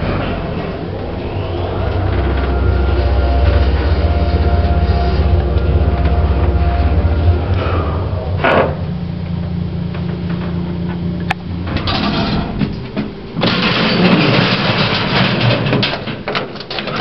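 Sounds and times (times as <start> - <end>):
low motor hum: 0.0 - 14.3
loud rough mechanical noise: 0.0 - 17.0.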